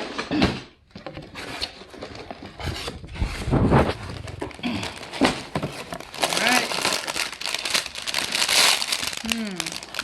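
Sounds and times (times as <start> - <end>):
plastic bags rustling: 1.8 - 10.0.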